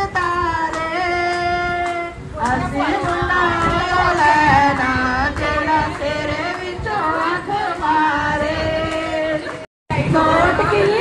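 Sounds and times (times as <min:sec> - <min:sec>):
woman singing into a microphone: 0:00.0 - 0:11.0.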